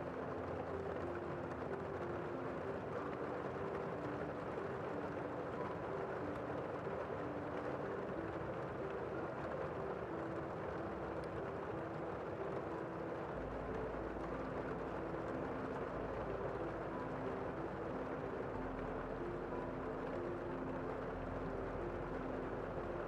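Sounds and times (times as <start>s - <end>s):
gentle rain falling: 0.0s - 23.0s.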